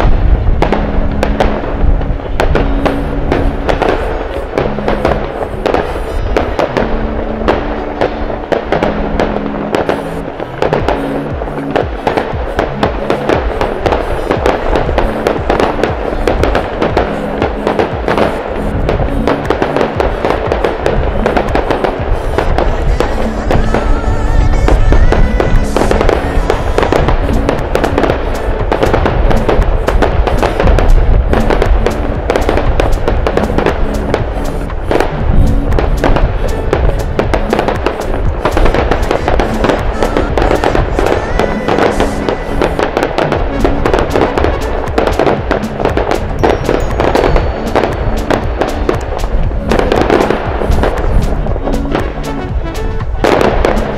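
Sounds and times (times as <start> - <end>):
fireworks bangs and crackling: 0.0 - 53.9
music playing: 0.0 - 53.9.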